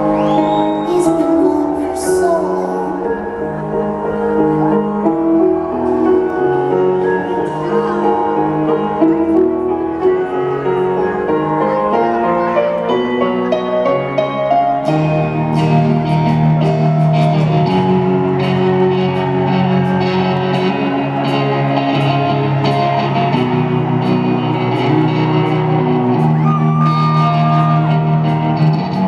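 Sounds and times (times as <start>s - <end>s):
live rock music: 0.0s - 29.0s
sustained keyboard chords: 0.0s - 29.0s.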